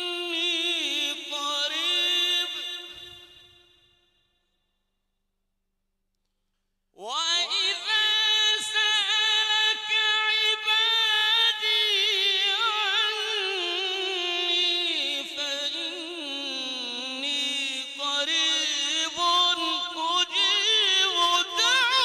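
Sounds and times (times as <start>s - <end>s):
man reciting melodically: 0.0s - 3.7s, 7.0s - 22.0s.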